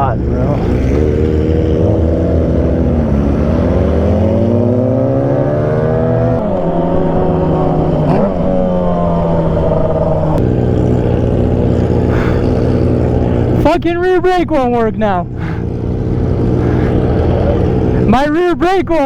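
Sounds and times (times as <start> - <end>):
motorcycle engine revving: 0.0 - 18.3.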